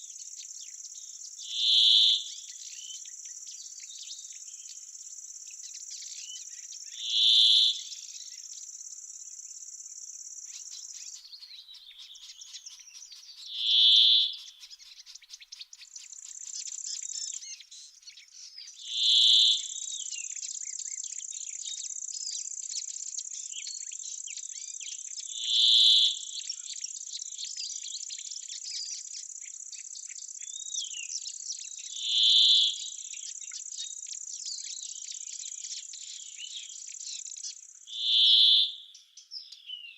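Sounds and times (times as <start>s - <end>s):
insect chorus: 0.0s - 39.9s
small birds chirping: 0.0s - 39.9s.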